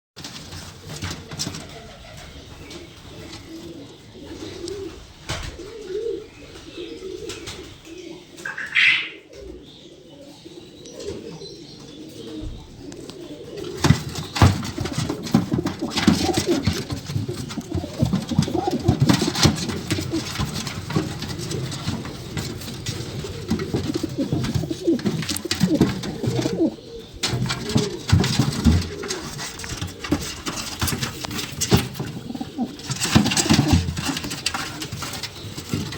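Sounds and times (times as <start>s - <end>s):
pigeons fighting slaps and scuffles: 0.2s - 8.4s, 12.2s - 35.9s
pigeons cooing: 0.2s - 35.9s.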